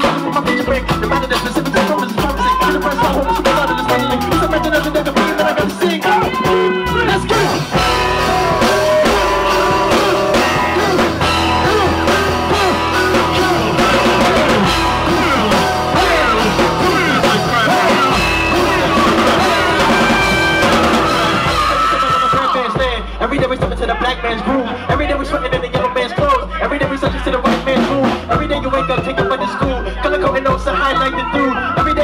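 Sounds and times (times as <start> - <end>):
live band playing: 0.0 - 32.0
person singing into a microphone: 0.0 - 32.0.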